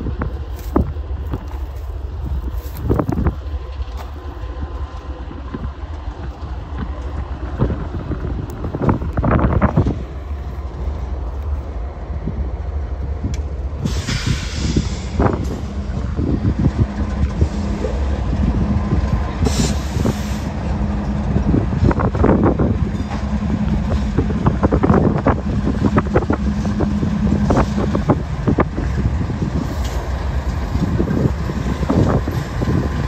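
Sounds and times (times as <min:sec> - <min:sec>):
freight train rumbling: 0:00.0 - 0:33.0
train wheels clanking and clicking: 0:00.0 - 0:33.0.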